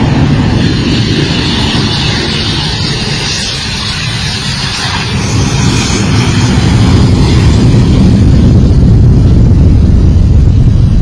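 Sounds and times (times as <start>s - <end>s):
jet low rumble: 0.0s - 11.0s.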